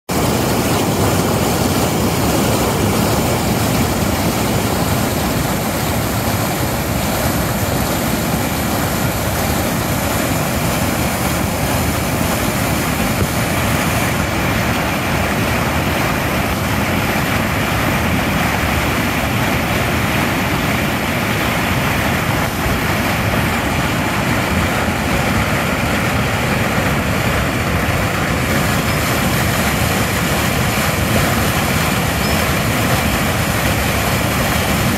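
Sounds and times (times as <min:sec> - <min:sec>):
water rushing over weir: 0:00.0 - 0:34.9.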